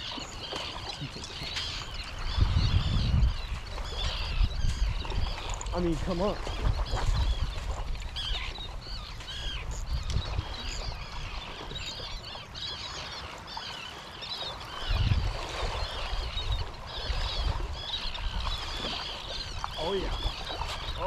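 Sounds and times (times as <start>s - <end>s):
seabirds calling: 0.0s - 21.0s.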